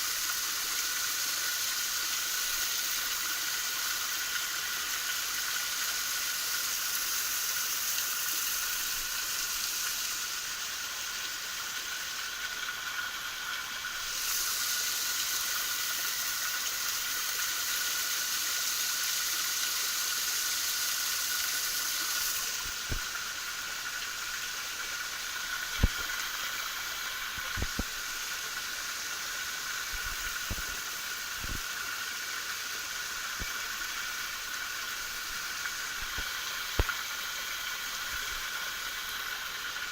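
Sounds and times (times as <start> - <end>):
waterfall rushing hiss: 0.0 - 39.9.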